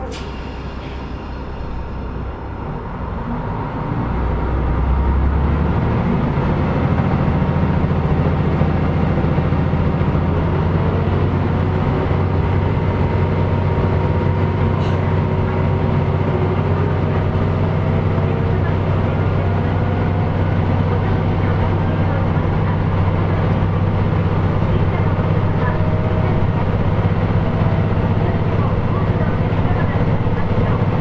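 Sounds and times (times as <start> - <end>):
diesel railcar engine revving: 0.0 - 31.0.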